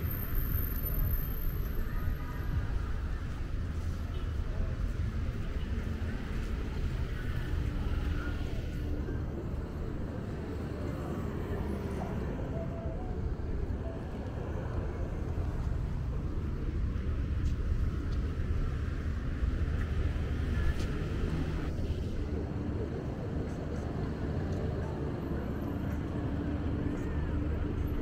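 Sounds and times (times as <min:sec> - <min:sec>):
road traffic rumble: 0:00.0 - 0:28.0
faint voices: 0:00.9 - 0:19.0, 0:19.6 - 0:28.0.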